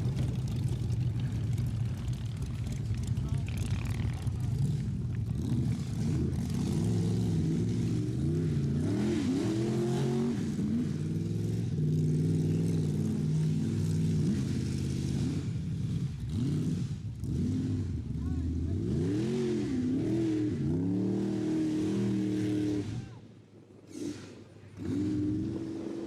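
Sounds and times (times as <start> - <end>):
car engine revving: 0.0 - 23.1.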